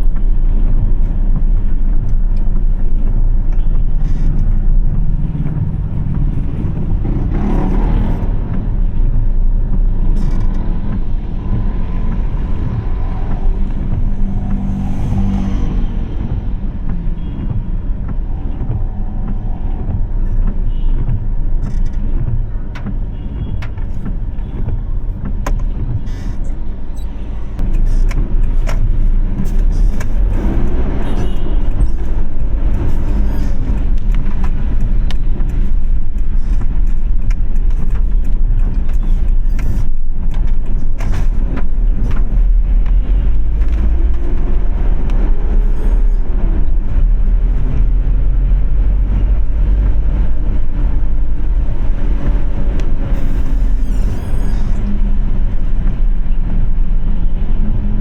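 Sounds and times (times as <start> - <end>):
low road rumble: 0.0 - 58.0
passing vehicle engines: 2.2 - 58.0.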